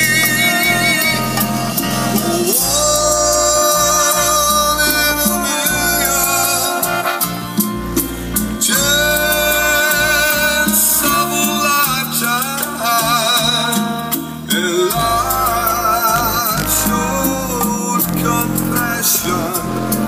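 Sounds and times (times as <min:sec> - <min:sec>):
song on car stereo with heavy bass: 0:00.0 - 0:20.0.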